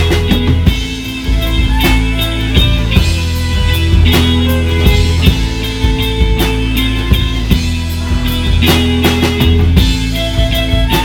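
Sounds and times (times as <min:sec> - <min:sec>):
drum hits: 0:00.0 - 0:11.0
fiddle held notes: 0:00.0 - 0:11.0
live rock band: 0:00.0 - 0:11.0
strummed acoustic guitar: 0:00.0 - 0:11.0.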